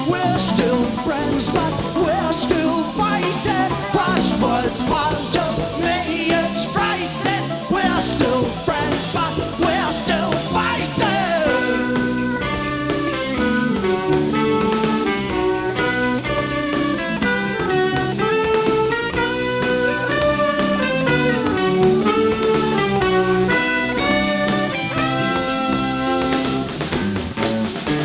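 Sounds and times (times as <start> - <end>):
drums: 0.0 - 28.0
guitar: 0.0 - 28.0
rock band playing: 0.0 - 28.0.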